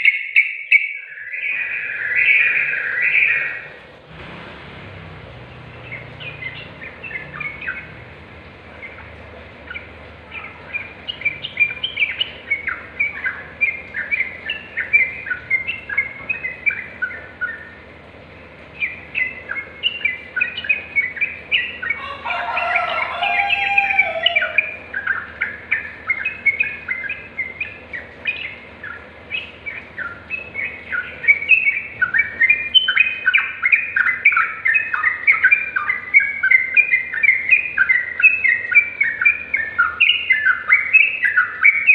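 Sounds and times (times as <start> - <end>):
bird chirping bubbly notes: 0.0 - 41.9.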